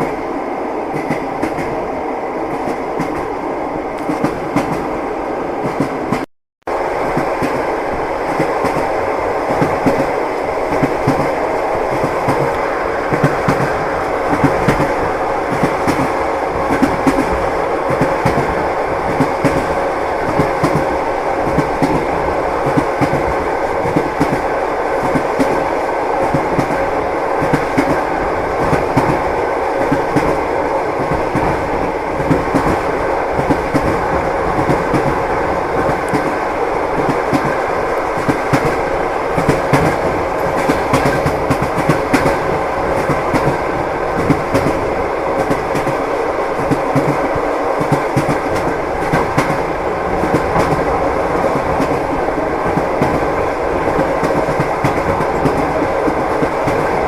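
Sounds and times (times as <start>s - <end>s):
train wheels clattering on rails: 4.0s - 4.9s, 7.0s - 57.0s.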